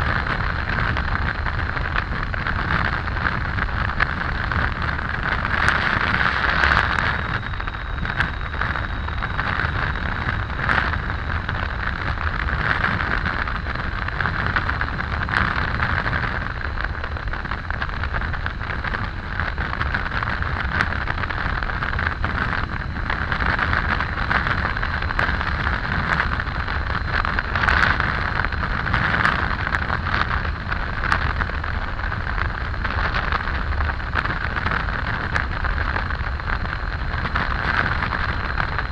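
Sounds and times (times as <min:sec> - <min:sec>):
motorcycle and tyre drone: 0:00.0 - 0:38.9
wind rushing over microphone: 0:00.0 - 0:38.9.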